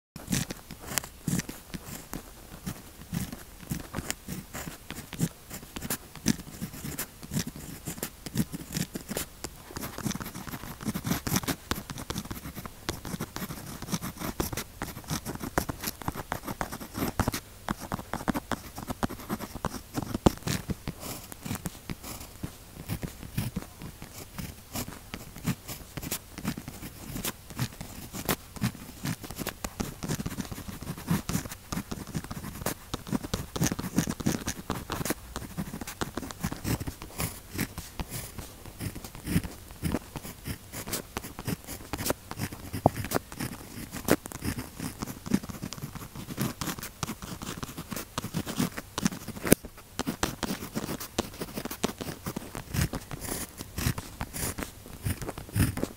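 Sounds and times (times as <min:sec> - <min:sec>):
pen scratching on paper: 0:00.2 - 0:55.9.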